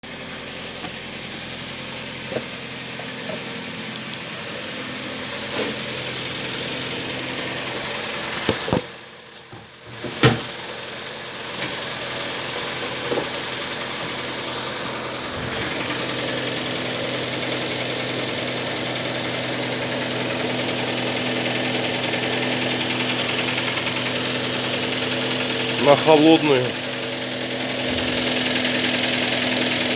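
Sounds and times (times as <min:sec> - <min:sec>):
car engine idling with knock: 0:00.0 - 0:29.9.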